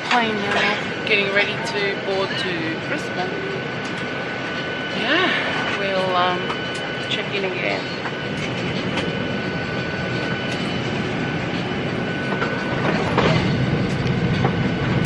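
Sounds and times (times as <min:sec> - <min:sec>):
roar of engines and air: 0:00.0 - 0:15.0
thin steady whine: 0:00.0 - 0:15.0.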